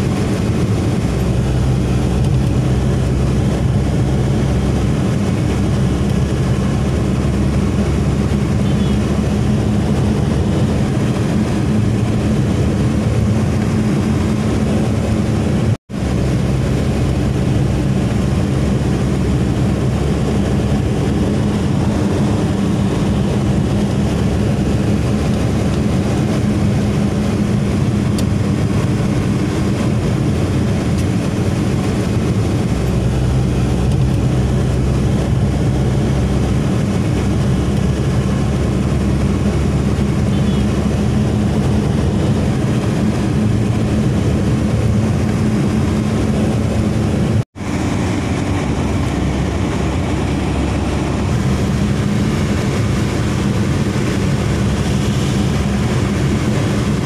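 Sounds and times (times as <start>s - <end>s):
car engine hum and road noise: 0.0s - 57.0s.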